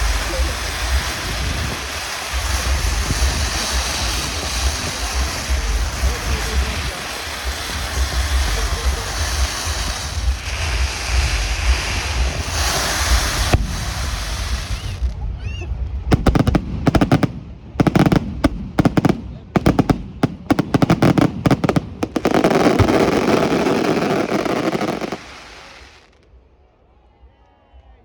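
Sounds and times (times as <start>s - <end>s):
wind buffeting microphone: 0.0s - 25.8s.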